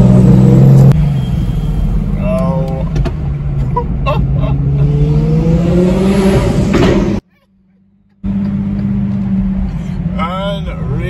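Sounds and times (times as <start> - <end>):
car engine drone: 0.0 - 11.0.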